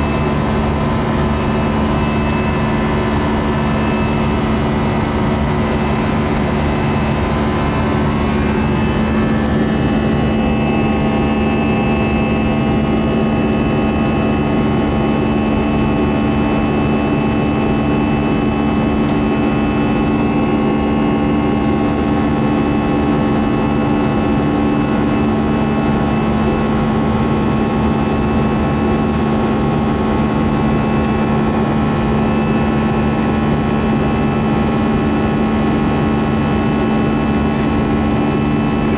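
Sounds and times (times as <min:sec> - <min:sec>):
constant hum tones: 0:00.0 - 0:38.9
jet engine and airflow drone: 0:00.0 - 0:38.9.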